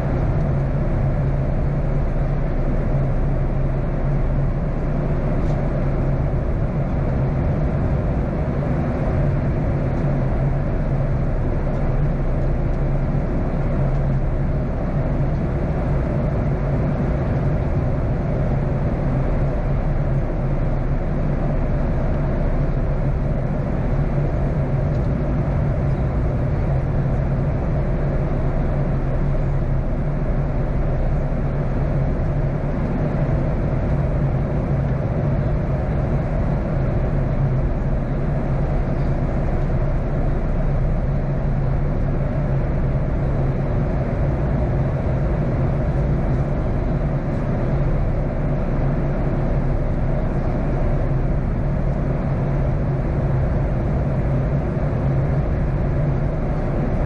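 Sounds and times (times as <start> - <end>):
jet engines running: 0.0 - 57.0
steady low hum: 0.0 - 57.0.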